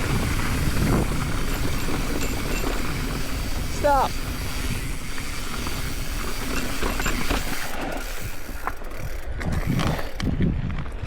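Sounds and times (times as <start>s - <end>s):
mountain bike rattling on rocks: 0.0s - 11.0s
wind on microphone: 0.0s - 11.0s.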